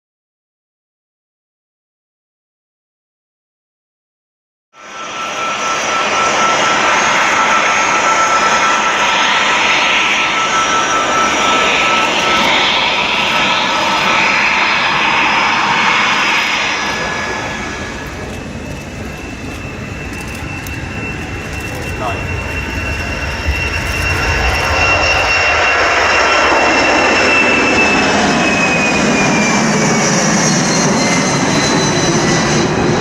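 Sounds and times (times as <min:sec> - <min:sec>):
jet engines roaring: 0:04.8 - 0:33.0.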